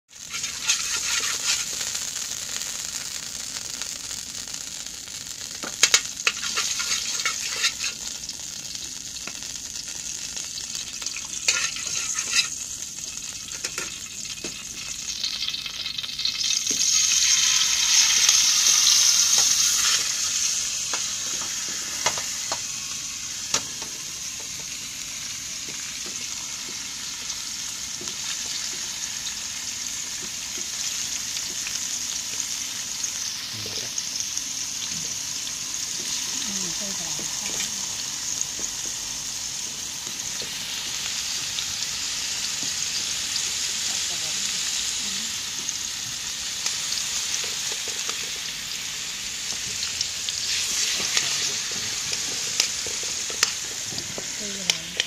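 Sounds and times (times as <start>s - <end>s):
fat sizzling in a pan: 0.1s - 55.0s.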